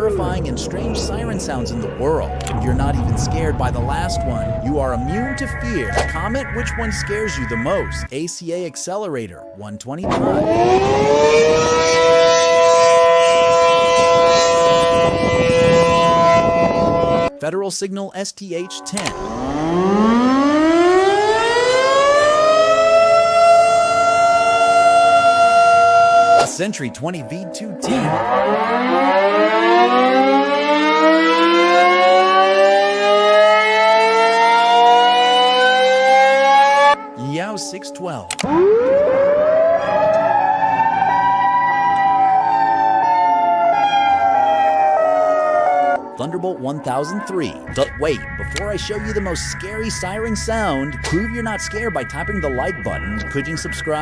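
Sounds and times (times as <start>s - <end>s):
warning siren winding up: 0.0s - 8.1s, 10.0s - 17.3s, 18.7s - 26.6s, 27.3s - 54.0s.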